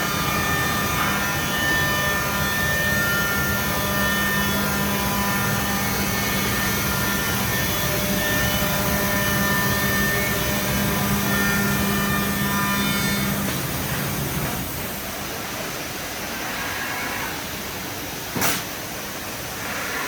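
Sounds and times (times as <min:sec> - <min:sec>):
cnc machine whine: 0:00.0 - 0:18.3.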